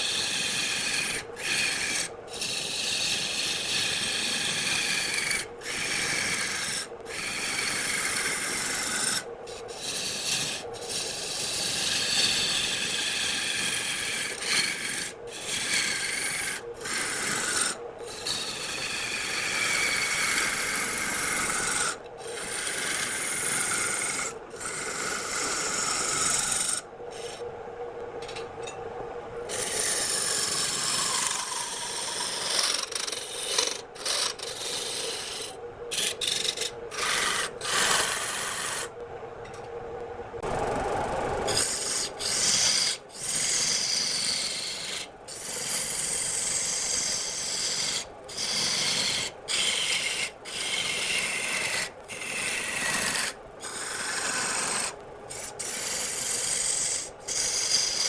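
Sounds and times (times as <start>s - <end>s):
tool cutting wood on a lathe: 0.0s - 27.4s, 29.5s - 38.9s, 40.5s - 58.0s
faint steady hum: 0.0s - 58.0s.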